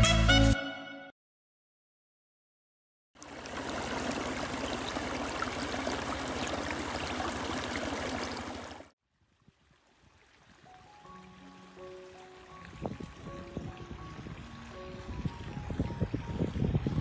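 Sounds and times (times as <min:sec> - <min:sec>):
stream splashing over rocks: 0:03.2 - 0:17.0.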